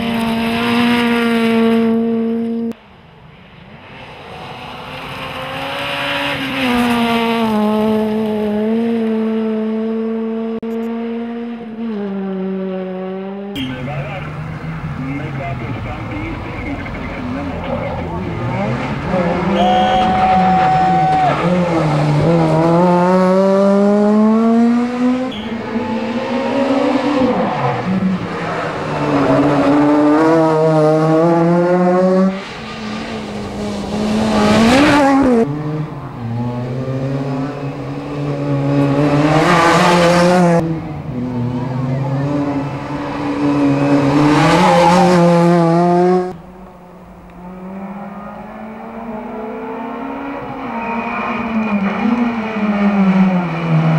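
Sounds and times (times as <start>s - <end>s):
rally car engine revving: 0.0s - 2.8s, 3.9s - 53.9s.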